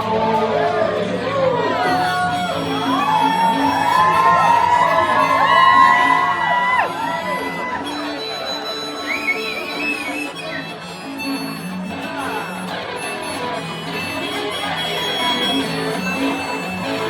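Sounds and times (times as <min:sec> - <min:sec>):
guitar chords: 0:00.0 - 0:17.0
high wavering lead melody: 0:00.0 - 0:17.0
live band playing: 0:00.0 - 0:17.0.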